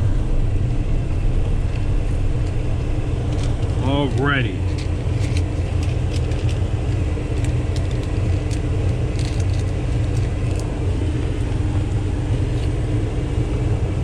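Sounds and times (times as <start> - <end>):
faint steady hum: 0.0 - 14.0
truck engine running: 0.0 - 14.0.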